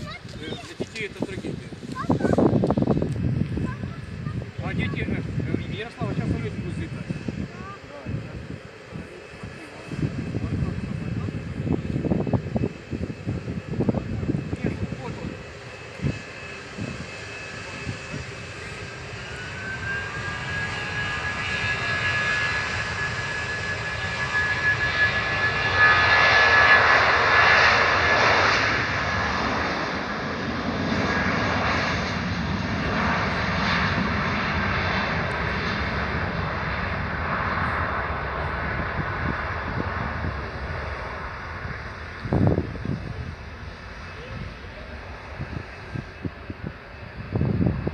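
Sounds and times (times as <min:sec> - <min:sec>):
aircraft engines running: 0:00.0 - 0:47.9
high engine whine: 0:00.2 - 0:47.9.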